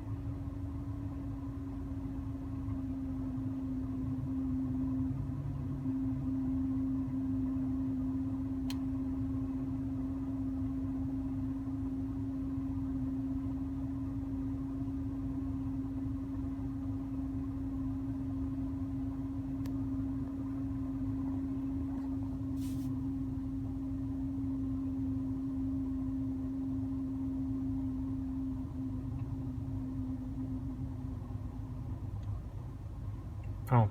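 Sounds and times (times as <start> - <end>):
air conditioning droning hum: 0.0 - 33.9.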